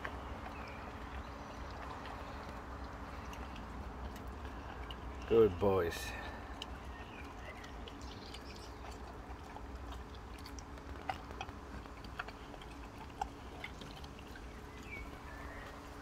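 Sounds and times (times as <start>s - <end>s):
dog chewing and licking: 0.0s - 16.0s.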